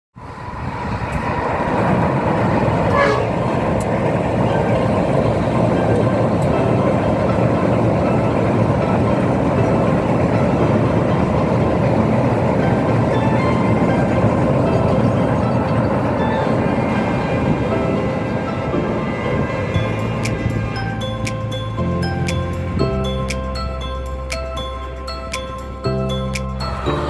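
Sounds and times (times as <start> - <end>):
train rolling rumble: 0.1 - 27.0.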